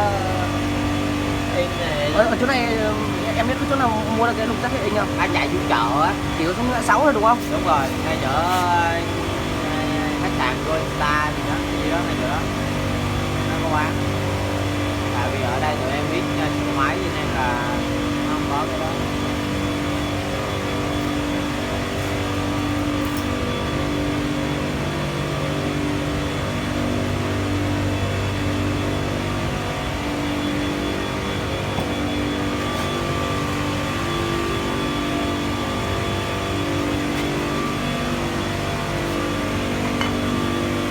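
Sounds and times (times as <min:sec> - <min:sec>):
machinery hum with steady tones: 0:00.0 - 0:40.9.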